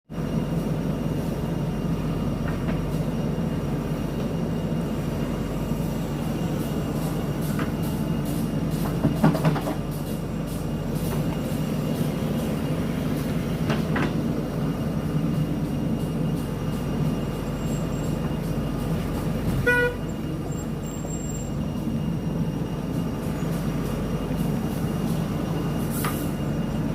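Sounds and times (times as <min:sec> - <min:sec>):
diesel engine running: 0:00.1 - 0:26.9.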